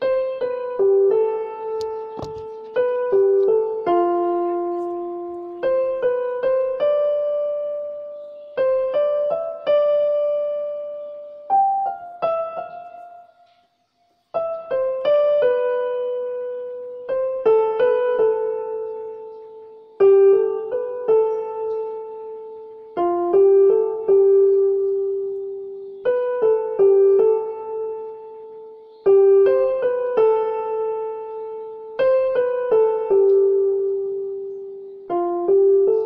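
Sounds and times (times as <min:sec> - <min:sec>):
slow piano melody: 0:00.0 - 0:36.0.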